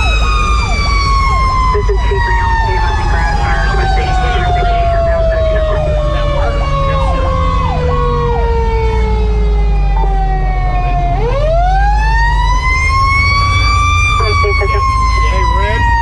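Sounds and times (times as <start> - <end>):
fire engine siren wailing: 0.0 - 16.0
siren yelps: 0.0 - 16.0
truck engine and road rumble: 0.0 - 16.0.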